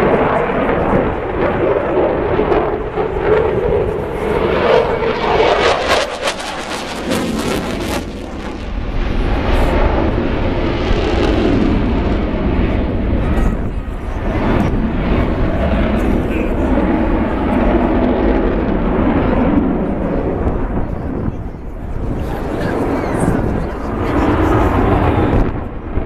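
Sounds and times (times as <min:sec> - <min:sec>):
fighter jet engines roaring: 0:00.0 - 0:26.0.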